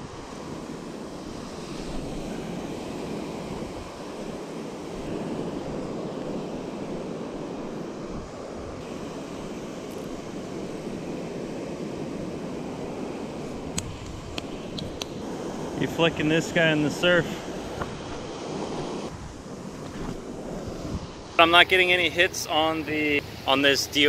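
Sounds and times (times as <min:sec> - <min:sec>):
wind on microphone: 0:00.0 - 0:21.4
surf washing up a beach: 0:00.0 - 0:24.0.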